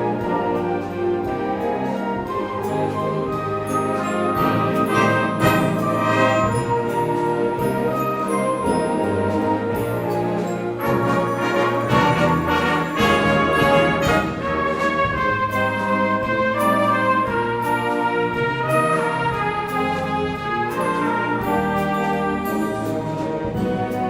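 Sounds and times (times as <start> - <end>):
wind band playing: 0.0 - 24.0.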